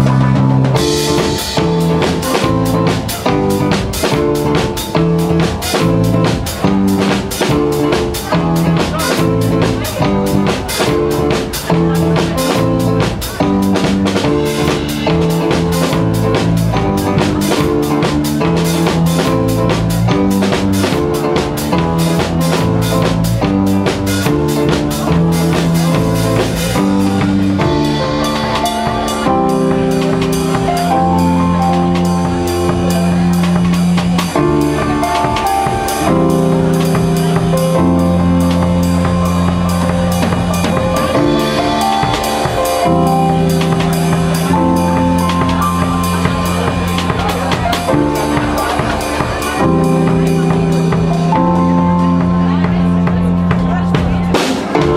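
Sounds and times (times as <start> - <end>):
drum kit with cymbals: 0.0 - 54.9
held keyboard chords: 0.0 - 54.9
low bass notes: 0.0 - 54.9.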